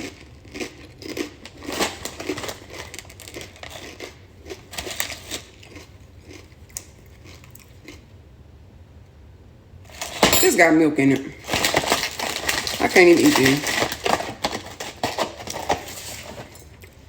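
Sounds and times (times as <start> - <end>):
snack packaging crinkling: 0.0 - 8.1, 9.9 - 10.3, 11.4 - 17.0.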